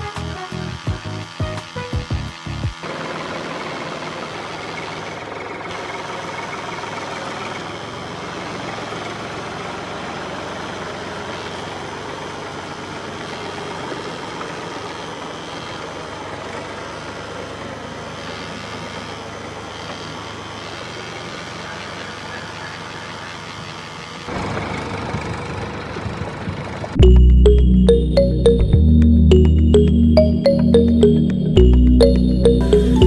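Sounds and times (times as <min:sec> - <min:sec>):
motor running with rattle: 0:00.0 - 0:27.0.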